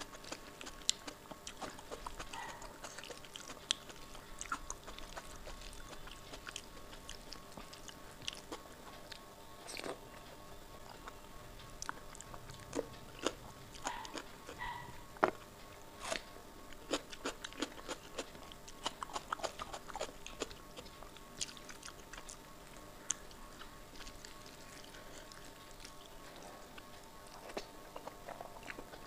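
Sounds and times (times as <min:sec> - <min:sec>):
wet chewing and lip-smacking: 0:00.0 - 0:29.0.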